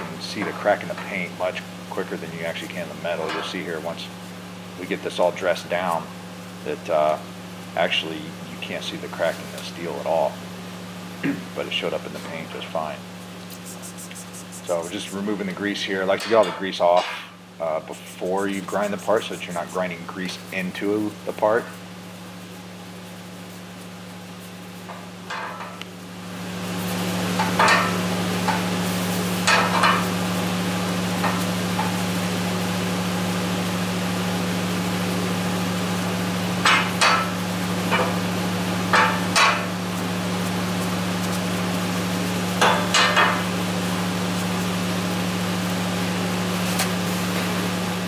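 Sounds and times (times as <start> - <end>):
steady low hum with hiss: 0.0 - 48.0.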